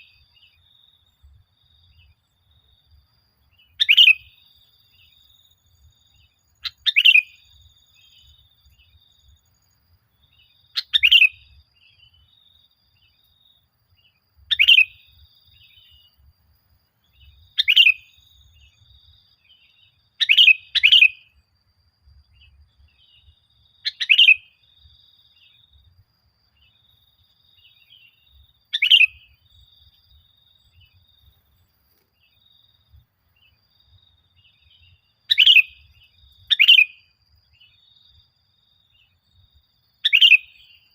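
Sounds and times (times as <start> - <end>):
bird song phrases: 0.0 - 40.9
faint bird chirping: 0.0 - 40.9.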